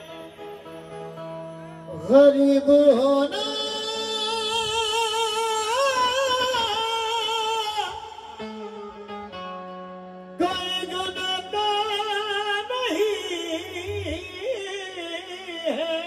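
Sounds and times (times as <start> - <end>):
man singing with vibrato: 0.0 - 9.5, 10.4 - 16.0.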